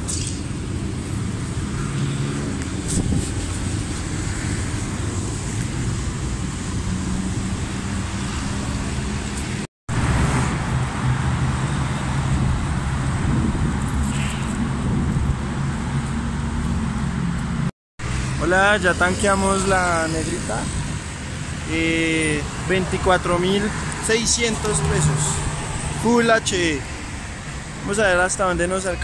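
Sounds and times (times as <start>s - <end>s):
road traffic hum: 0.0s - 29.0s.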